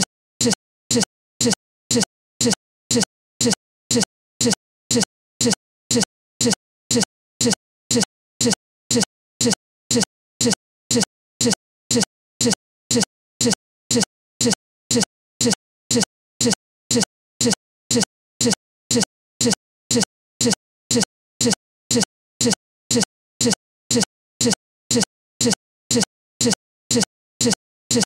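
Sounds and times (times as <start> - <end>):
stuttering sound scrap repeating: 0.0 - 28.0.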